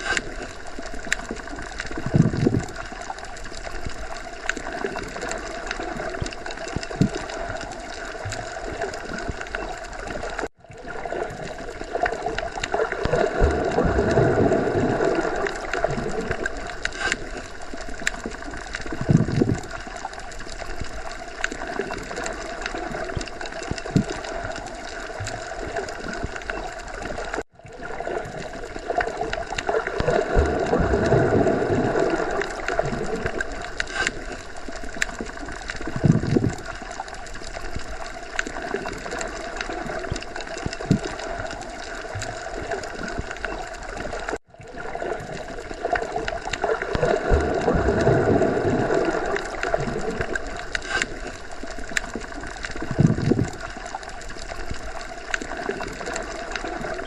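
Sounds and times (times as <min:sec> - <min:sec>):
underwater gurgling and bubbling: 0:00.0 - 0:57.0.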